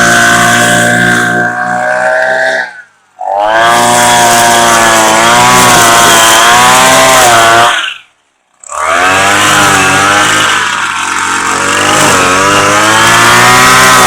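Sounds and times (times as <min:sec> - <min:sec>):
string trimmer engine running: 0:00.0 - 0:02.6, 0:03.2 - 0:07.9, 0:08.6 - 0:14.0.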